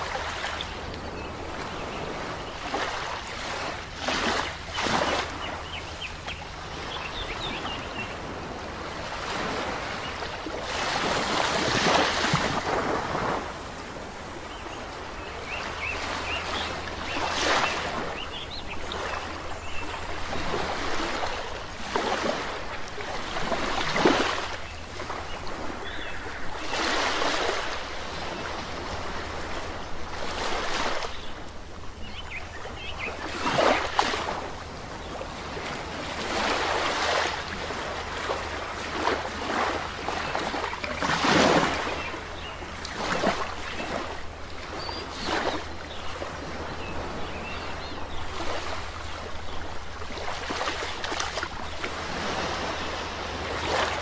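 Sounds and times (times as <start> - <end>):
sea waves washing onto shore: 0.0 - 54.0
birds chirping: 0.1 - 11.0, 14.0 - 36.1, 39.9 - 54.0.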